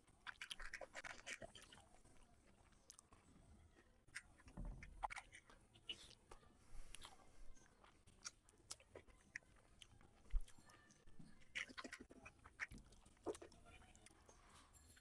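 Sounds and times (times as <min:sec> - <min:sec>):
chewing and squelching: 0:00.0 - 0:15.0.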